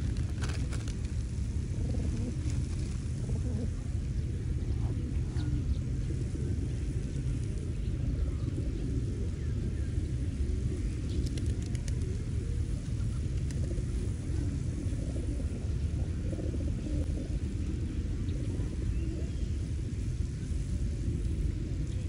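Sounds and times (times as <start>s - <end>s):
pigeons cooing: 0.0s - 22.0s
steady low rumble: 0.0s - 22.0s.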